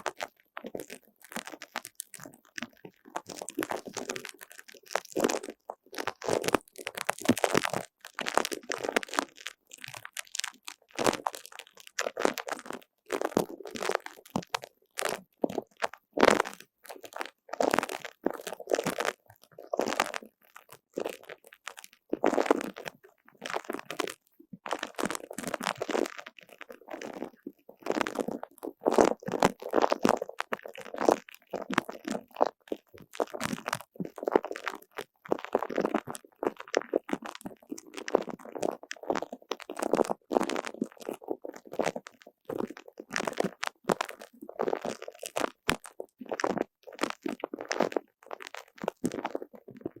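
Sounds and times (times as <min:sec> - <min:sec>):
squishy toy squelching and crackling: 0:00.0 - 0:50.0.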